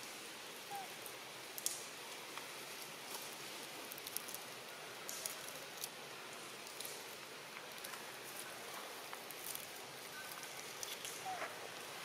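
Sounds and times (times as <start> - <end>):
faint steady hiss: 0.0 - 12.0
light ticks and crackles: 0.9 - 12.0.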